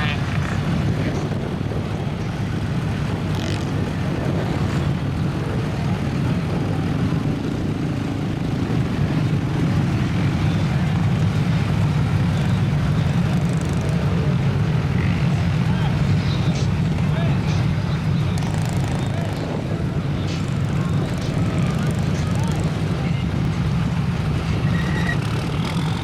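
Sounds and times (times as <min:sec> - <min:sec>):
truck engine low drone: 0:00.0 - 0:26.0.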